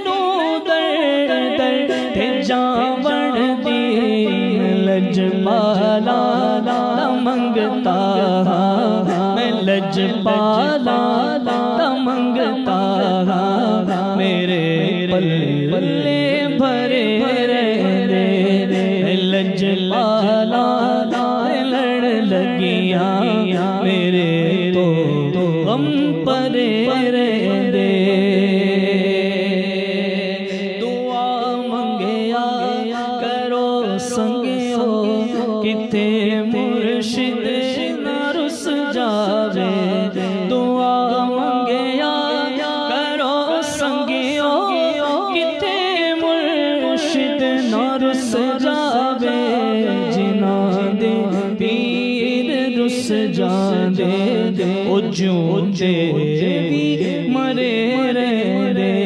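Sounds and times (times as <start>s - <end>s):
man singing into a microphone: 0.0s - 59.0s.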